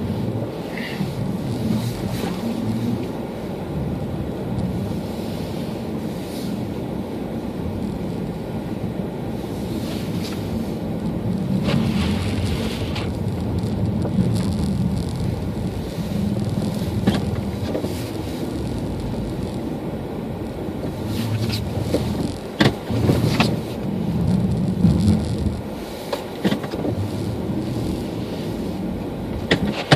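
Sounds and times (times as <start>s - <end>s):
car engine and road rumble: 0.0s - 29.9s.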